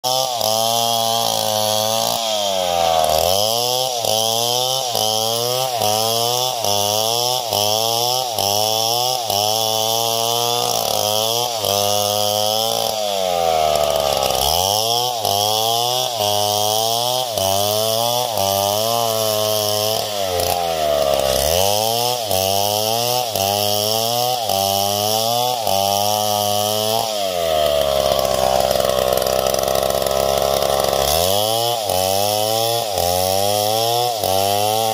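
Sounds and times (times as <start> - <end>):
chainsaw cutting through log: 0.0 - 34.9.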